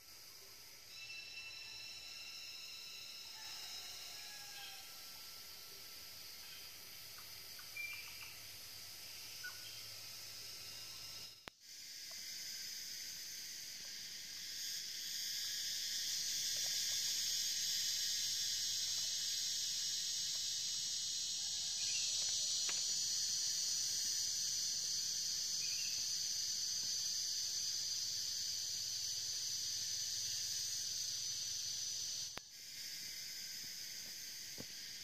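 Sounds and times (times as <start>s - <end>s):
faint insect chirps: 0.0s - 35.0s
high-pitched insect chorus: 0.0s - 35.0s.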